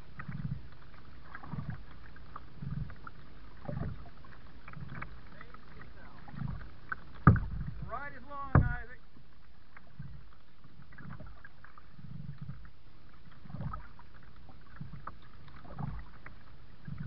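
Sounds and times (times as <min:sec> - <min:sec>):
kayak paddle strokes: 0:00.0 - 0:17.0
water splashes: 0:00.0 - 0:17.0.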